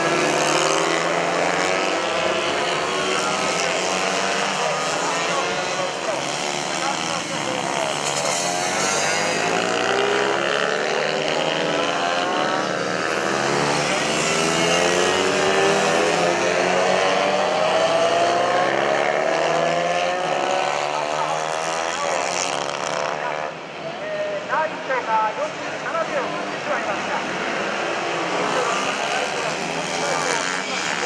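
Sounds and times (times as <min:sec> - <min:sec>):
mini-bike racing engines: 0:00.0 - 0:24.0, 0:24.6 - 0:31.0.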